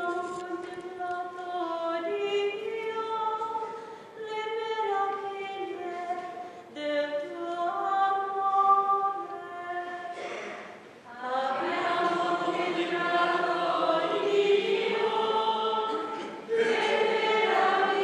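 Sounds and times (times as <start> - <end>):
woman singing unaccompanied: 0.0 - 10.1, 11.1 - 16.1.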